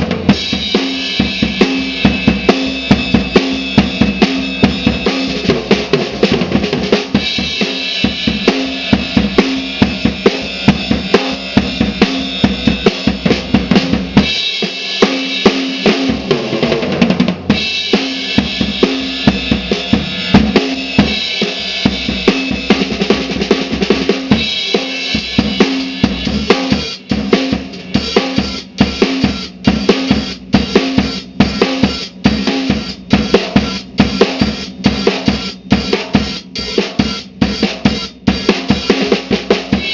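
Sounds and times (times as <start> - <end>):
cymbals: 0.0 - 16.6, 17.5 - 39.9
snare drum: 0.0 - 39.9.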